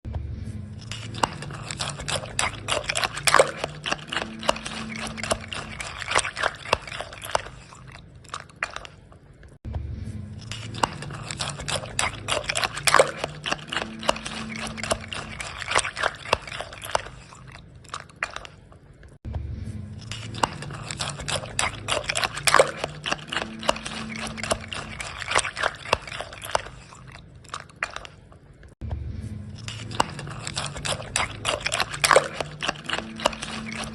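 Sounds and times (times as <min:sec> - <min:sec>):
spoon stirring cereal in bowl: 0:00.8 - 0:09.2, 0:10.4 - 0:18.8, 0:20.0 - 0:28.4, 0:29.6 - 0:33.9.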